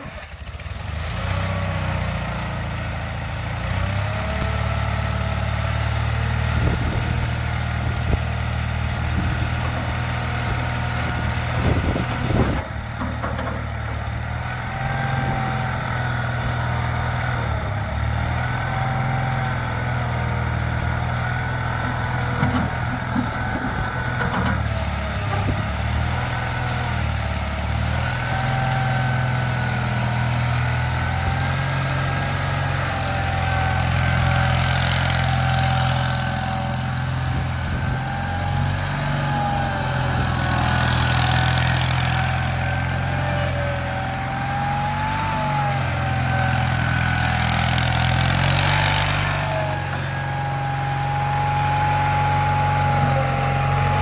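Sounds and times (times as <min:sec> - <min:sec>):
skid steer loader engine running: 0:00.0 - 0:54.0.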